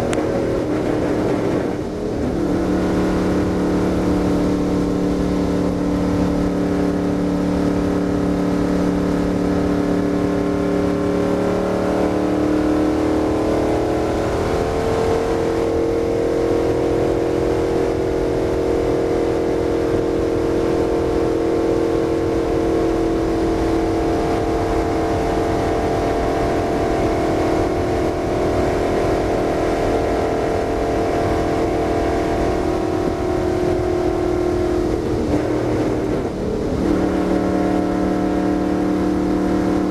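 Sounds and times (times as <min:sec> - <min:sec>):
car engine drone at speed: 0:00.0 - 0:39.9.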